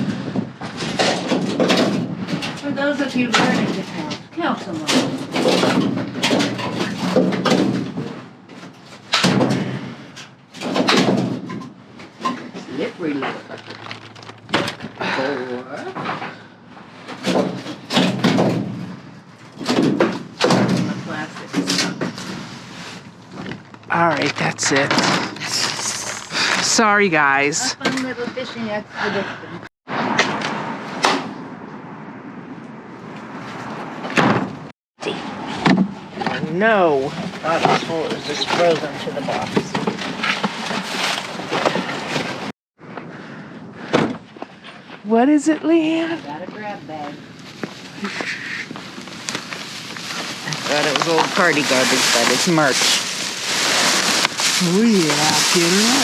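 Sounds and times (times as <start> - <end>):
steady outdoor noise: 0.0 - 56.0.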